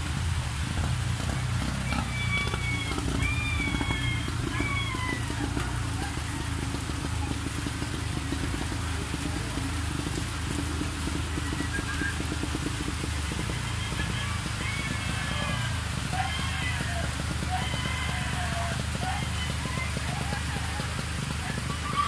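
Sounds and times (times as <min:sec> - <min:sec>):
floodwater rushing: 0:00.0 - 0:22.0
steady rain: 0:00.0 - 0:22.0.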